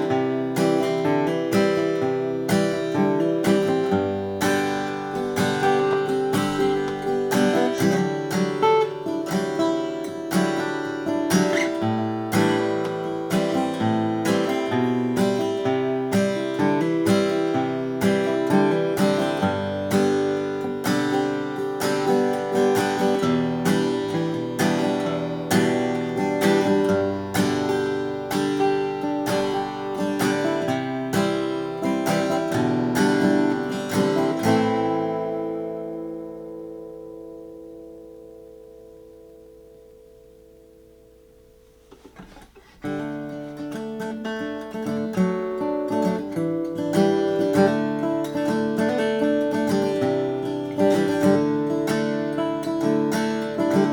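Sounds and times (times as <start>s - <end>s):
acoustic guitar strummed chords: 0.0s - 53.9s.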